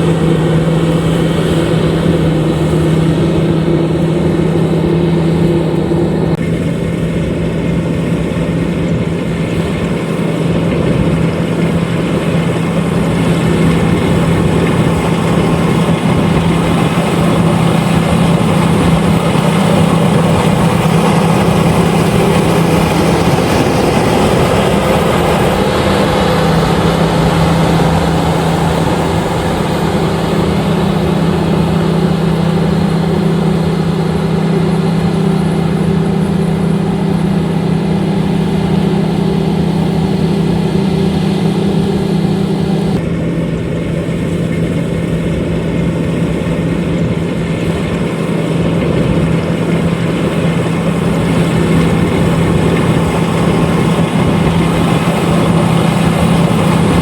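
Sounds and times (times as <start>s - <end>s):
combine harvester engine hum: 0.0s - 57.0s
machinery noise: 0.0s - 57.0s.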